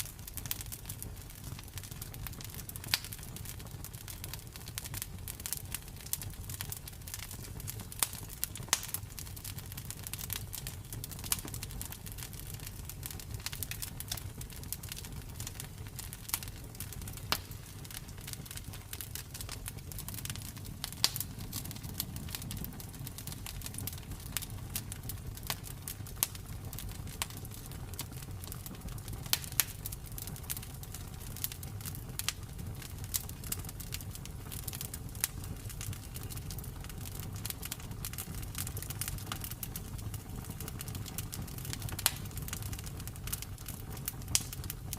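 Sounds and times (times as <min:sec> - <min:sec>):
campfire crackling and popping: 0:00.0 - 0:44.9
low steady fire rumble: 0:00.0 - 0:44.9.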